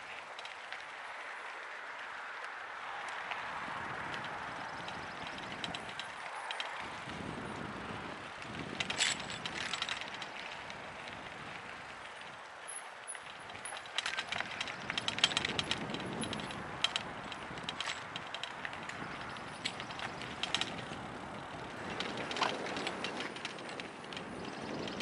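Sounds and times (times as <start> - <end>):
bike clicking and rattling: 0.0 - 25.0
tyre and trail noise: 0.0 - 25.0.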